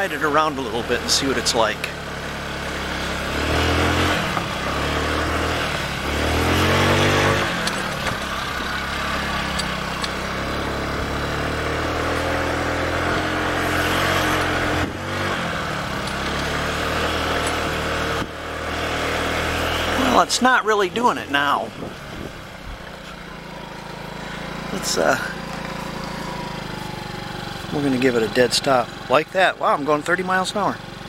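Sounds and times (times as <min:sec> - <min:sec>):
scooter engine revving: 0:00.0 - 0:31.0.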